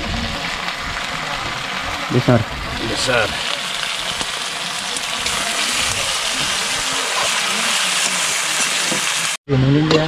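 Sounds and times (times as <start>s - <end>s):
meat sizzling in a wok: 0.0s - 9.4s.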